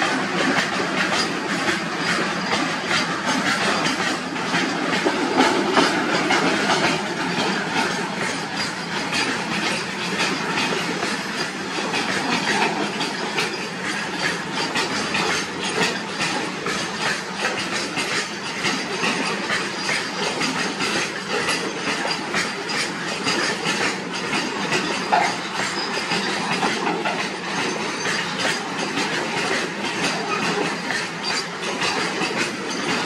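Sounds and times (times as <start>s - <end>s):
freight wagons rumbling: 0.0s - 33.0s
wheels clattering over rail joints: 0.0s - 33.0s
wheel squeal: 0.4s - 33.0s.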